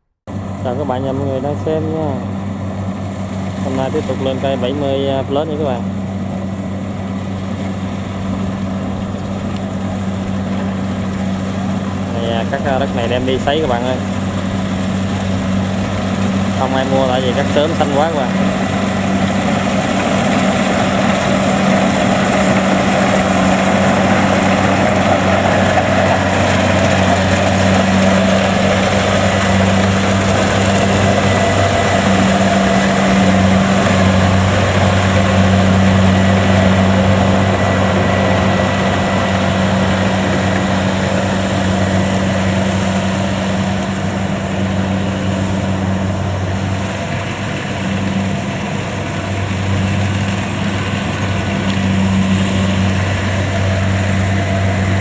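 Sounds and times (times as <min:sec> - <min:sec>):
combine harvester engine running: 0:00.2 - 0:55.0.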